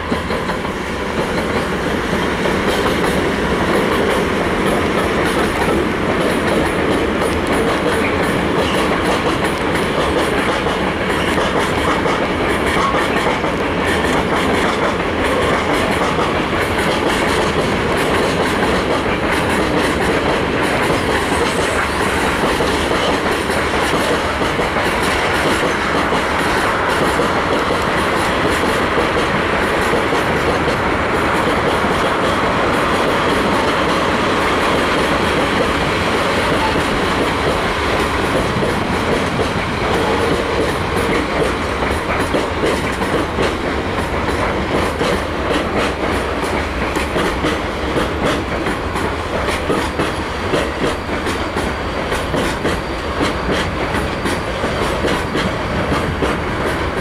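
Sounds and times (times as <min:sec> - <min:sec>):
train rolling past: 0:00.0 - 0:57.0
wheels clicking over rail joints: 0:00.0 - 0:57.0.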